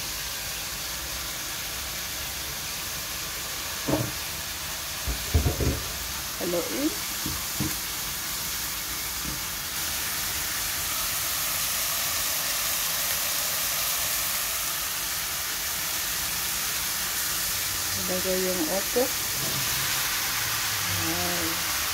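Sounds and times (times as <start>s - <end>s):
food sizzling in a wok: 0.0s - 21.9s.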